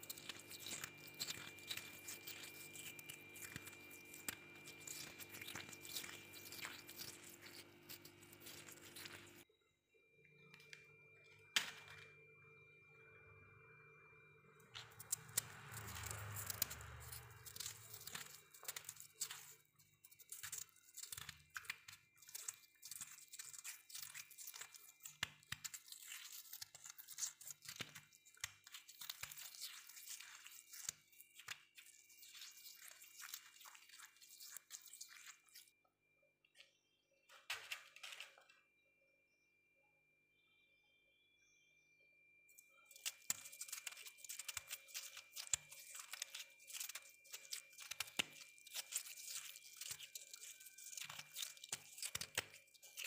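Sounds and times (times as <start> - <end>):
freezer frost crunching: 0.0 - 9.5, 11.5 - 12.1, 14.7 - 35.7, 37.3 - 38.6, 42.5 - 53.0.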